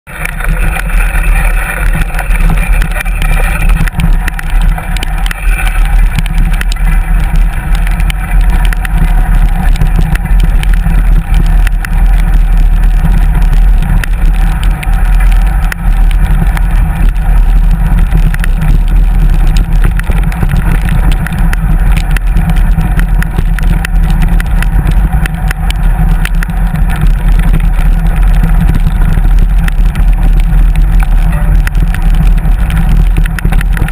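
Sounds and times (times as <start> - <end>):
bicycle tyre and trail noise: 0.1 - 33.9
wind buffeting microphone: 0.1 - 33.9.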